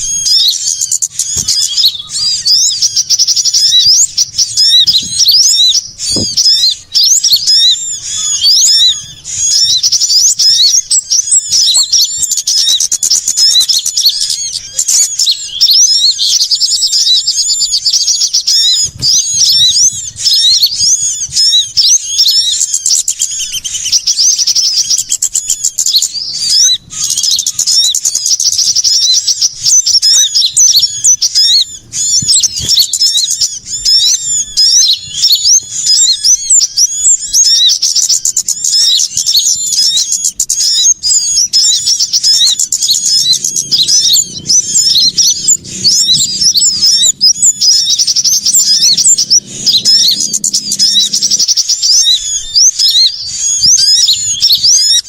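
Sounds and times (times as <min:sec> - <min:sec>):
chorus of songbirds chirping: 0:00.0 - 0:55.0.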